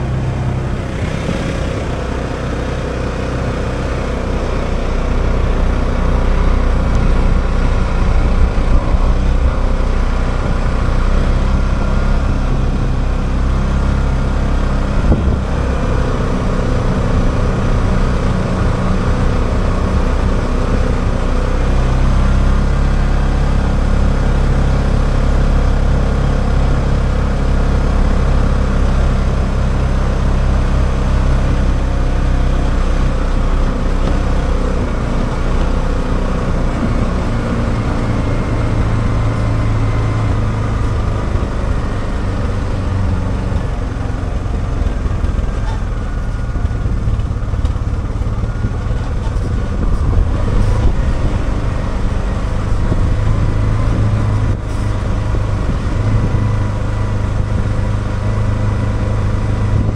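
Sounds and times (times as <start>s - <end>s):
off-road vehicle engine running: 0.0s - 59.9s
riding noise rush: 0.0s - 59.9s.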